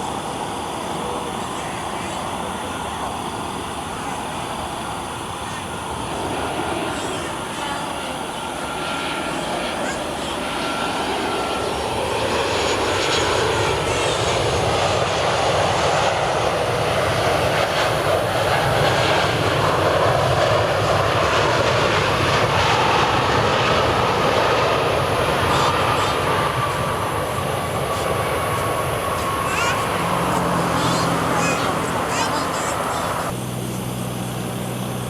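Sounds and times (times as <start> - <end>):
faint high whine: 0.0 - 35.0
jet engine roar: 0.0 - 35.0.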